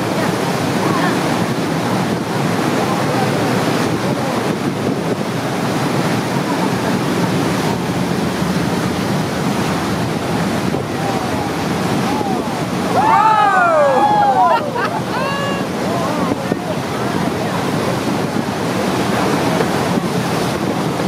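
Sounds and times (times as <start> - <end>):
water churning in boat wake: 0.0 - 21.0
wind buffeting microphone: 0.0 - 21.0.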